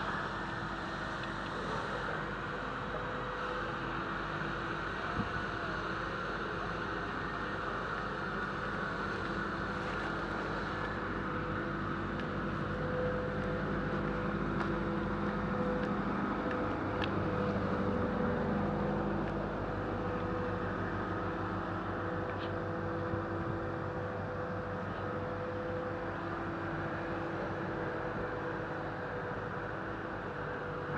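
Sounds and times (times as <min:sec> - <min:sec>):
crane engine running: 0:00.0 - 0:30.9.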